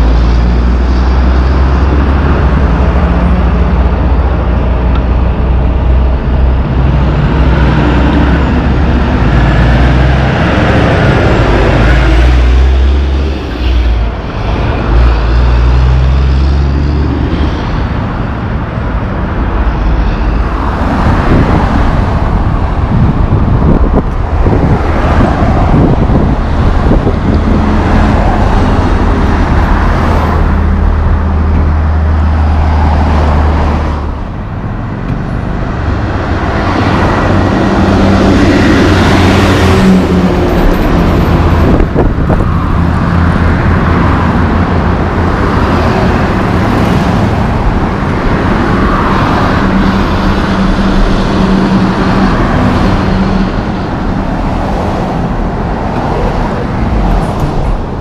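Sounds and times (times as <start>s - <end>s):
truck diesel engine droning: 0.0s - 58.0s
tyre noise of passing cars: 0.0s - 58.0s.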